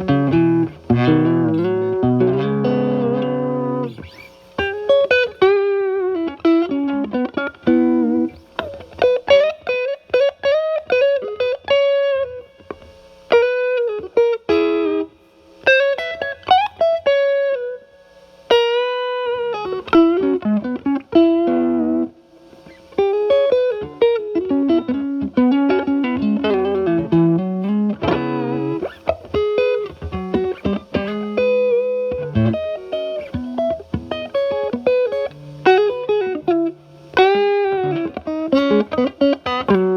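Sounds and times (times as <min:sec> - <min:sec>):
overdriven electric guitar lines: 0:00.0 - 0:39.9.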